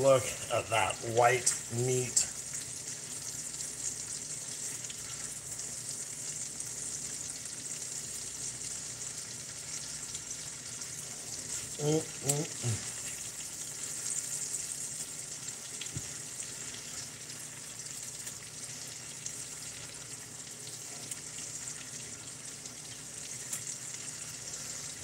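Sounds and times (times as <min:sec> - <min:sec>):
fish fillets sizzling in a skillet: 0:00.0 - 0:25.0.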